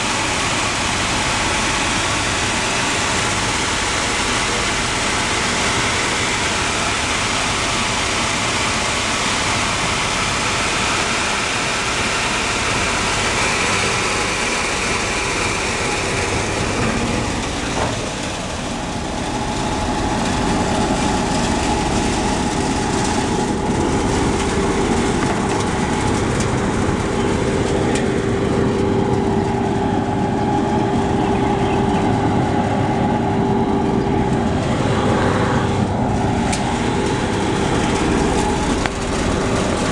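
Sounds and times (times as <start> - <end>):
dehulling machine running: 0.0 - 39.9.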